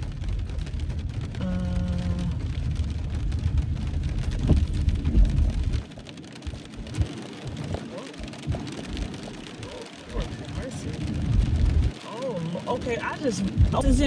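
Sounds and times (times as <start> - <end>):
heavy rain on car roof: 0.0 - 14.0
tyre and road noise rumble: 0.0 - 14.0.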